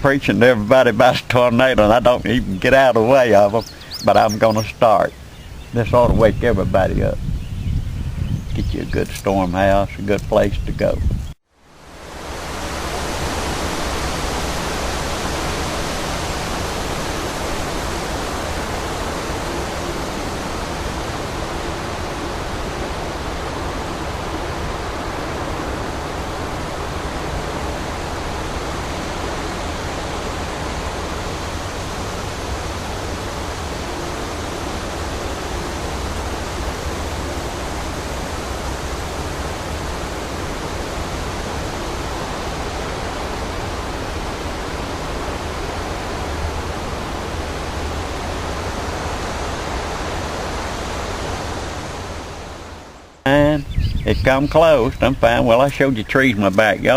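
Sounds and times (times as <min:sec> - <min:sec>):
steady rushing noise: 0:00.0 - 0:56.9.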